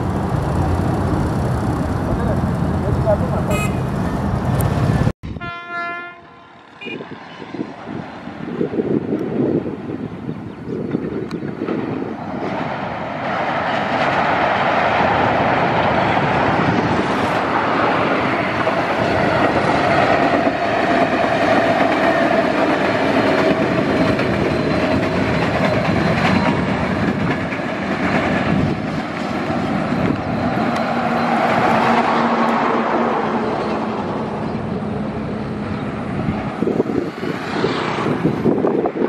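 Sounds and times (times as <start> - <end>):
locomotive engines passing: 0.0 - 5.1, 6.4 - 39.0
rail noise: 0.0 - 39.0.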